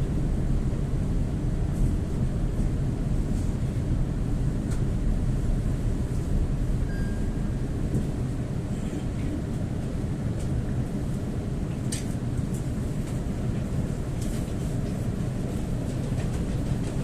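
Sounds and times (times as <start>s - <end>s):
train low rumble inside carriage: 0.0s - 17.0s.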